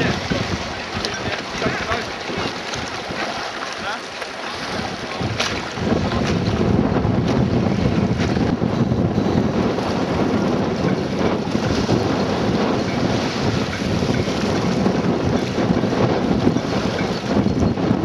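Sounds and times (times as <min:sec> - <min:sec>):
choppy water: 0:00.0 - 0:18.0
wind buffeting microphone: 0:00.0 - 0:18.0.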